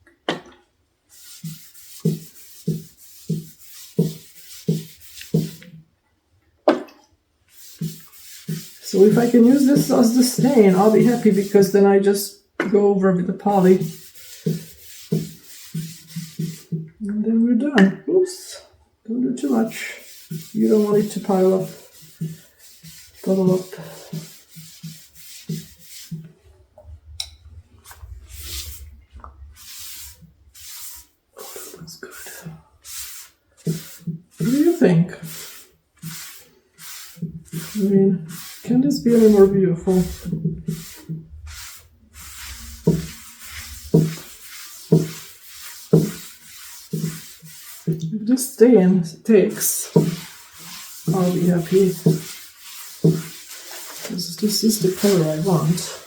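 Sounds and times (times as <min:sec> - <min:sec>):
cloth rag rubbing wood: 0:01.1 - 0:05.8, 0:07.5 - 0:11.9, 0:13.4 - 0:16.9, 0:19.4 - 0:26.4, 0:27.8 - 0:48.5, 0:49.5 - 0:56.0.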